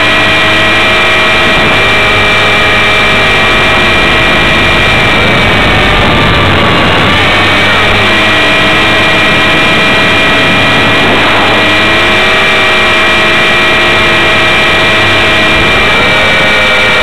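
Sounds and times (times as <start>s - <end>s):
helicopter motor and rotor whine: 0.0s - 17.0s.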